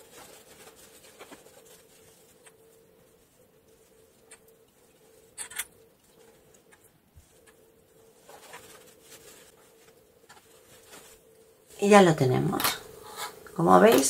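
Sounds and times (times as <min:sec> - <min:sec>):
cloth and yarn rustling: 0:00.0 - 0:12.6
faint steady hum: 0:00.0 - 0:14.0.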